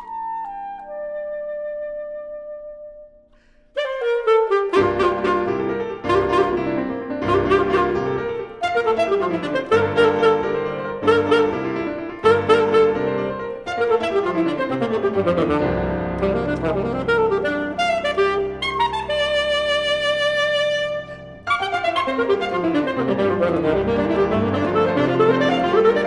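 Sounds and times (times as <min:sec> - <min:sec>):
alto saxophone: 0:00.0 - 0:26.0
piano chords and runs: 0:04.7 - 0:26.0.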